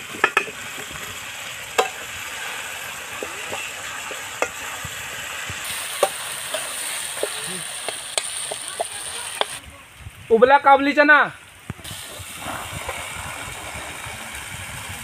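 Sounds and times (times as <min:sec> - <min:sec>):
potatoes sizzling in pan: 0:00.0 - 0:09.6, 0:11.8 - 0:15.0.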